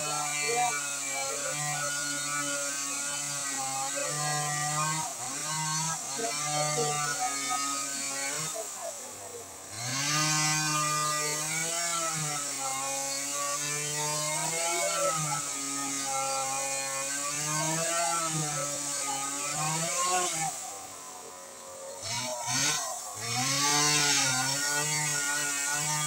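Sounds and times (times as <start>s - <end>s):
chainsaw cutting into tree trunk: 0.0s - 26.0s.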